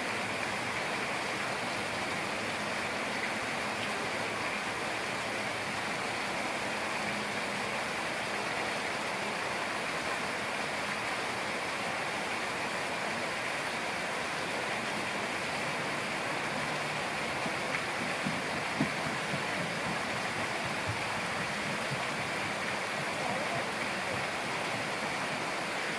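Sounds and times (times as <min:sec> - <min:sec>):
water pouring down rock wall: 0:00.0 - 0:25.9.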